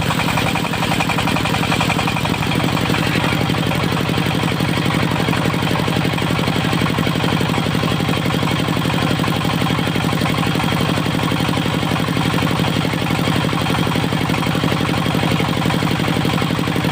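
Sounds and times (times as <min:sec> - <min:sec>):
diesel engine chugging: 0:00.0 - 0:16.9.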